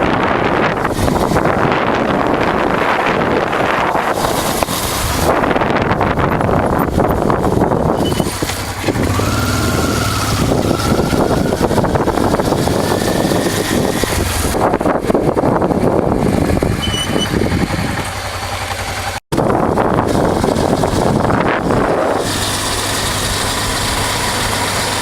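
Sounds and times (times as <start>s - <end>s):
steady rushing noise: 0.0s - 16.8s, 17.4s - 25.0s
motorcycle engine running: 0.0s - 25.0s.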